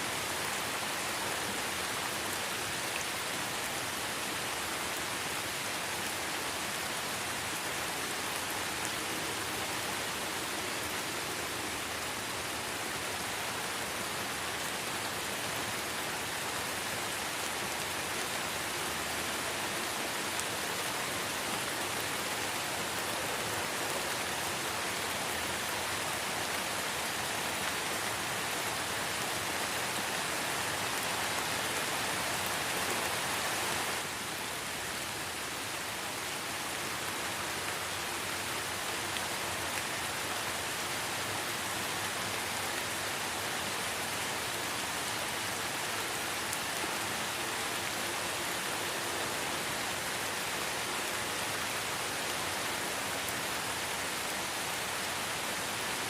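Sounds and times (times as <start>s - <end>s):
light rain in a forest: 0.0s - 56.0s.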